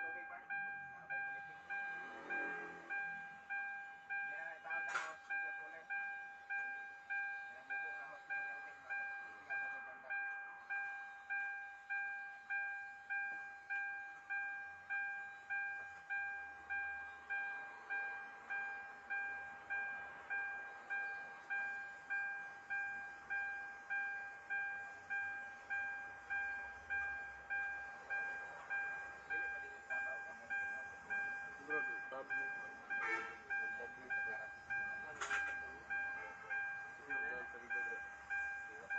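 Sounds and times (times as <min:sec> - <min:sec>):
vehicle warning chime dings: 0:00.0 - 0:38.9.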